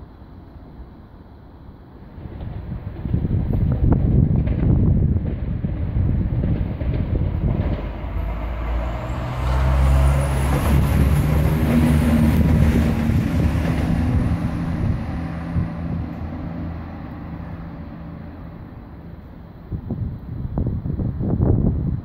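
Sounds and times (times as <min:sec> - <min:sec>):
diesel train engines droning: 0:00.0 - 0:21.2
train wheels rumbling: 0:01.9 - 0:21.2.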